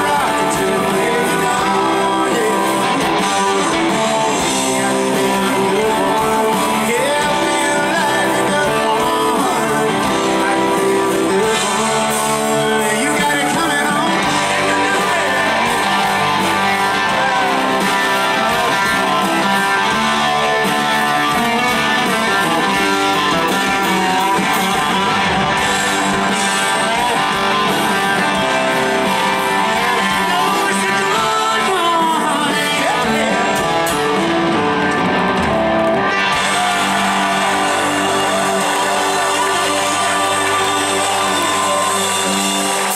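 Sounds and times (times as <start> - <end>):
man singing: 0.0 - 34.8, 36.0 - 42.9
live rock band playing: 0.0 - 42.9.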